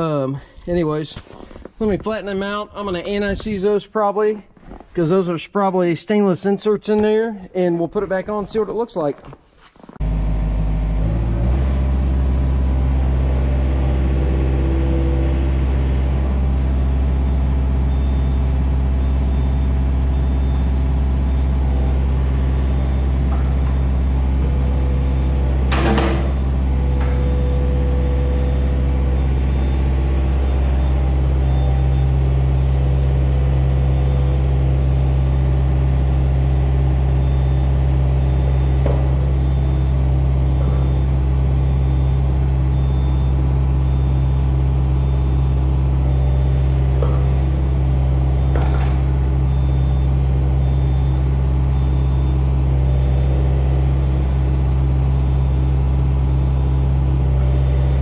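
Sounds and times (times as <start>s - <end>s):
machinery humming: 10.0s - 58.0s.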